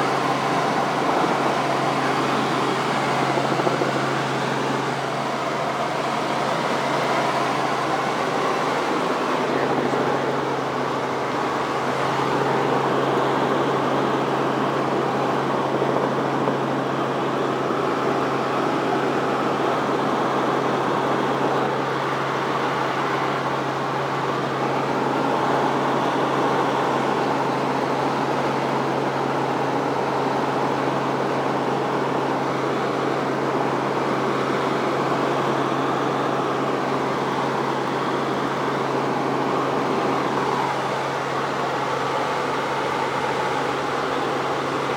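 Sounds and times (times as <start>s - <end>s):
helicopter engine and rotors drone: 0.0s - 44.9s.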